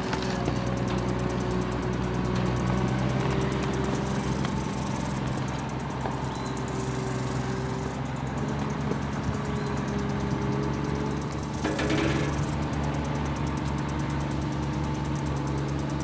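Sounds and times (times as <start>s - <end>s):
small motor running steadily: 0.0s - 16.0s.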